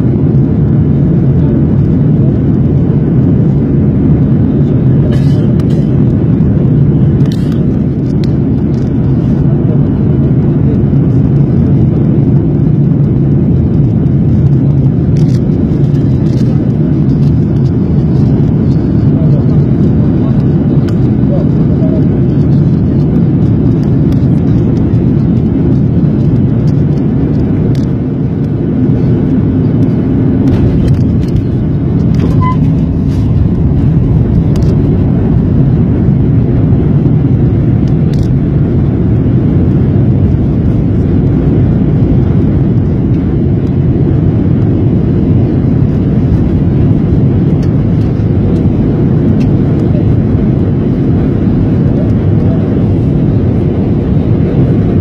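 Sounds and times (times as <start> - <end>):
jet engines roaring: 0.0 - 55.0
rushing air: 0.0 - 55.0.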